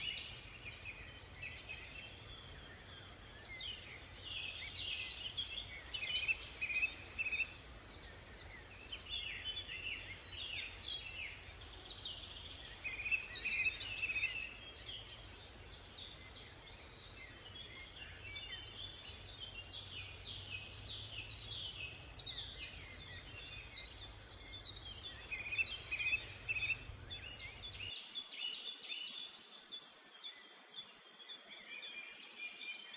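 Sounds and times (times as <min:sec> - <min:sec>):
small songbirds chirping: 0:00.0 - 0:32.9
steady background hiss: 0:00.0 - 0:32.9.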